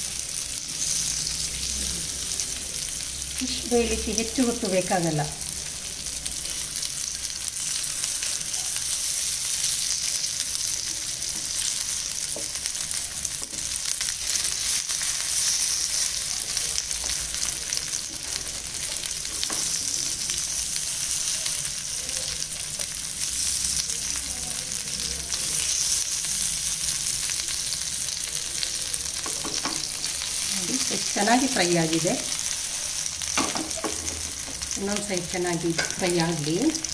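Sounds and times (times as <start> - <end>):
fish sizzling in oil: 0.0 - 36.9.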